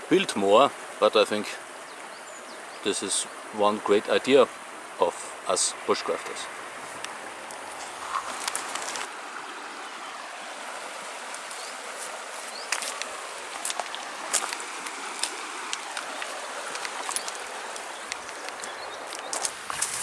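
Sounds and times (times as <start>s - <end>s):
river rushing over gravel: 2.8s - 20.0s.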